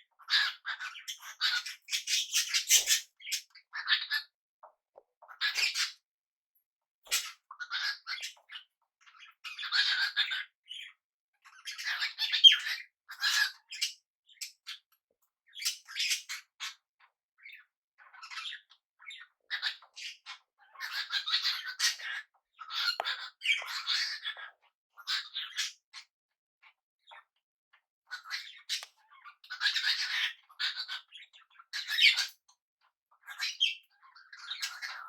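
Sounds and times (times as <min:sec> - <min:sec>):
parrots chattering and squawking: 0:00.1 - 0:04.4, 0:05.2 - 0:06.0, 0:07.0 - 0:14.9, 0:15.5 - 0:26.1, 0:28.1 - 0:32.5, 0:33.2 - 0:35.0.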